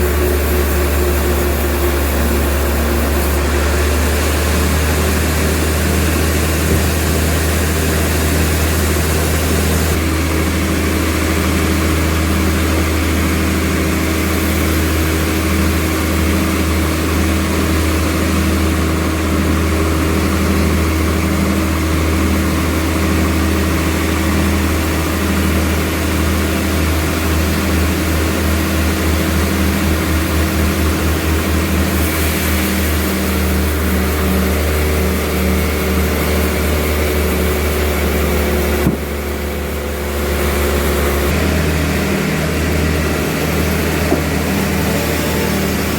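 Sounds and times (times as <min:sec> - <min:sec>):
sawmill machine humming: 0:00.0 - 0:45.9.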